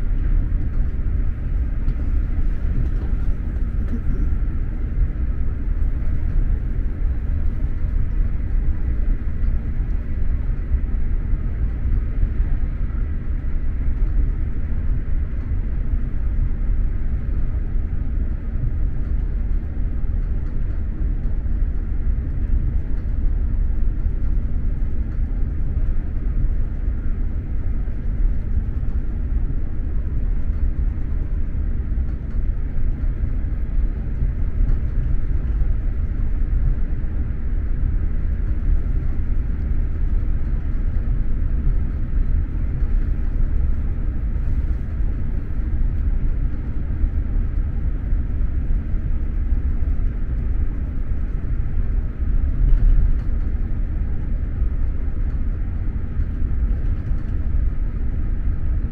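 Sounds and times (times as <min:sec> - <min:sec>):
train rumble from inside car: 0:00.0 - 0:58.9.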